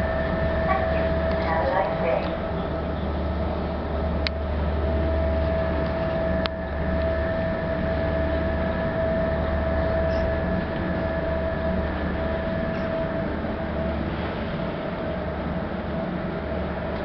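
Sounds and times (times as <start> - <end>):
mid-pitched whine: 0.0 - 17.0
ship engines droning: 0.0 - 17.0.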